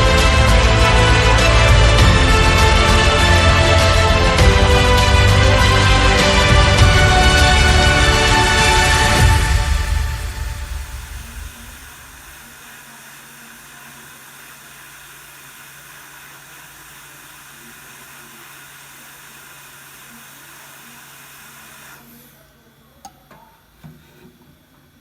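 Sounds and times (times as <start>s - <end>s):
steady hiss: 0.0s - 22.9s.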